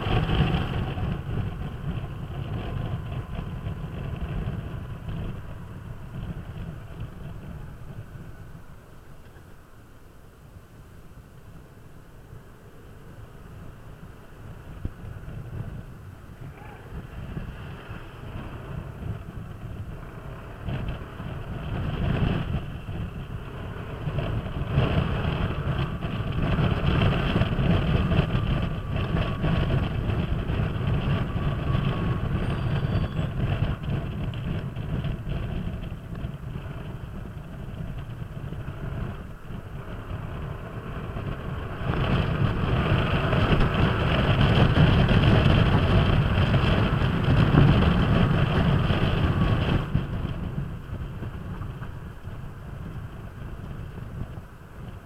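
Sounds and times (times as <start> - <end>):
scooter engine running: 0.0 - 9.6, 12.7 - 55.0
wind on microphone: 0.0 - 55.0.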